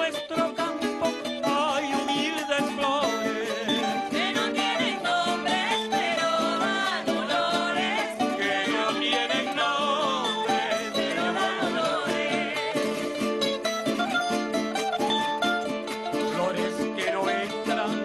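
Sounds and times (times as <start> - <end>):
group singing folk song: 0.0 - 18.0
strummed small guitars: 0.0 - 18.0.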